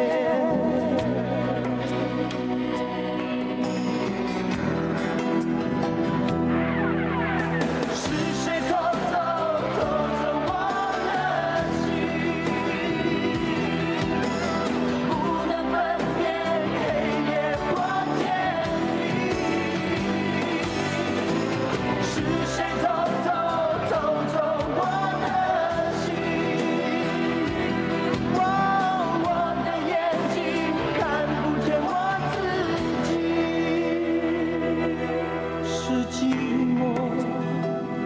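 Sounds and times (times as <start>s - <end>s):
pop ballad with singing: 0.0s - 38.0s.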